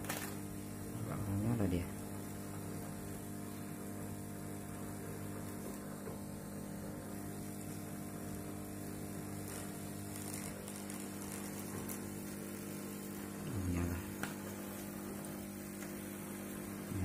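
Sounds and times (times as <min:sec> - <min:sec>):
aquarium air pump humming: 0:00.0 - 0:17.0.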